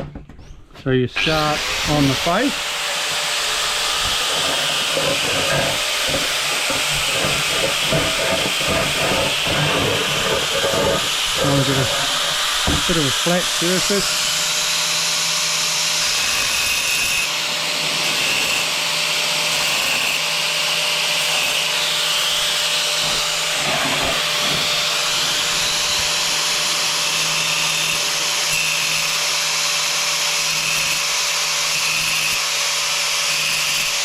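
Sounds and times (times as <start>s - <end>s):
angle grinder grinding tile: 1.2s - 20.2s, 21.0s - 34.0s.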